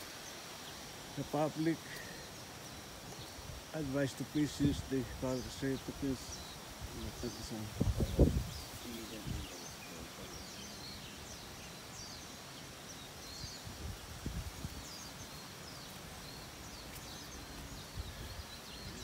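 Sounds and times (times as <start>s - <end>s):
small birds chirping: 0.0s - 19.0s
steady outdoor hiss: 0.0s - 19.0s.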